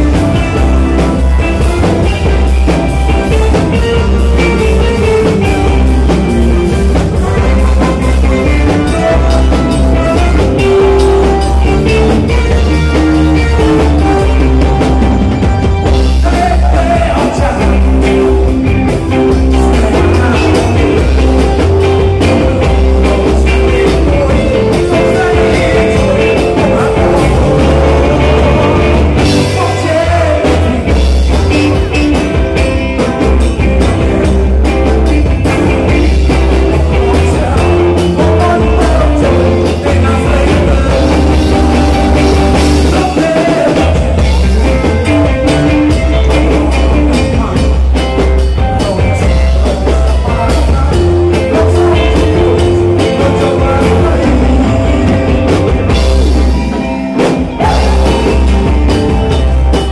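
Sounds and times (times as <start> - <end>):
person singing: 0.0 - 32.8, 34.6 - 59.9
heavy bass beat: 0.0 - 56.7, 57.5 - 59.9
loud band music: 0.0 - 59.9.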